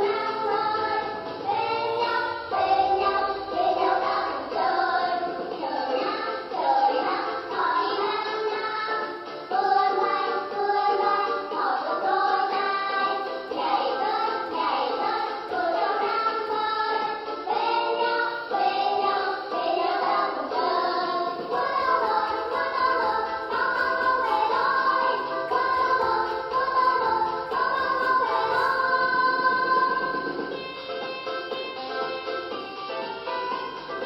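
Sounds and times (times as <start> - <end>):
children's choir singing: 0.0 - 31.1
backing music: 0.0 - 34.0.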